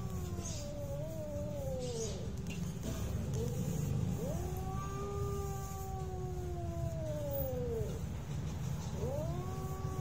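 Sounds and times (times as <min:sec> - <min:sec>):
cats yowling: 0:00.0 - 0:10.0.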